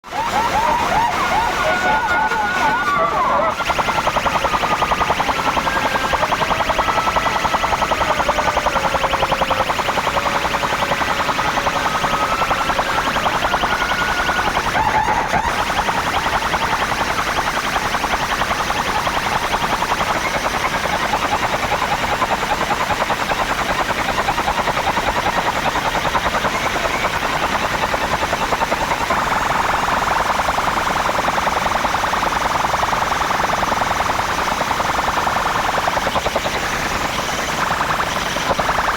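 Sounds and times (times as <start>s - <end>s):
warbling electronic siren horn: 0.0s - 38.9s.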